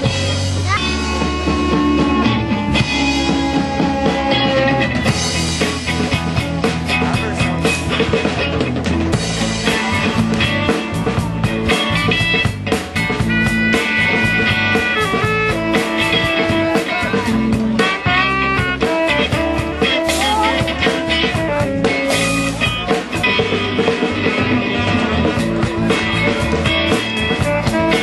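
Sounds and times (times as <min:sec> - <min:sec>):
drum beat: 0:00.0 - 0:28.0
electric guitar: 0:00.0 - 0:28.0.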